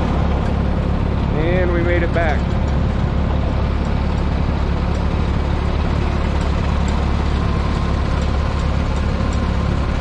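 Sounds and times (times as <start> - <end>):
tractor engines rumbling: 0.0 - 10.0.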